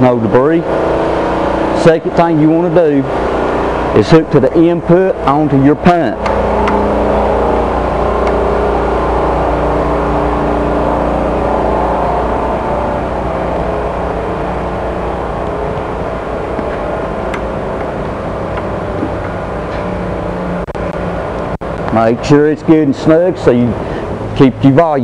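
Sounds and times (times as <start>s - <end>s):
engine running with low hum: 0.0s - 25.0s.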